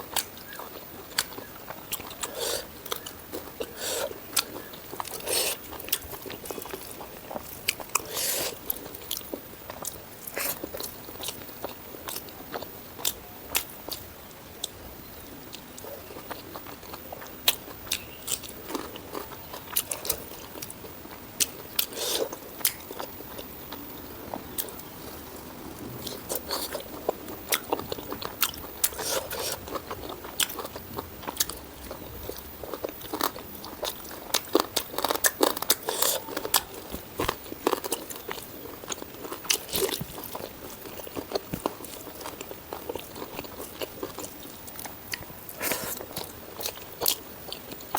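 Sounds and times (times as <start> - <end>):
crunching and wet chewing: 0.0 - 47.9.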